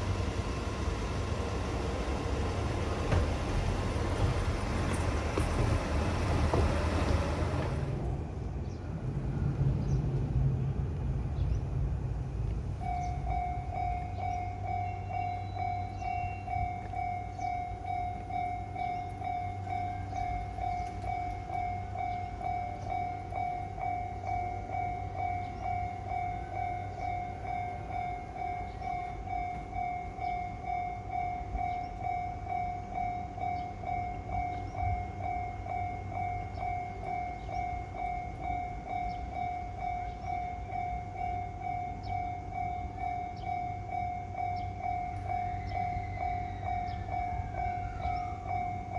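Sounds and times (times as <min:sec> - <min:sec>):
level-crossing warning bell: 0:00.0 - 0:08.0, 0:12.8 - 0:48.9.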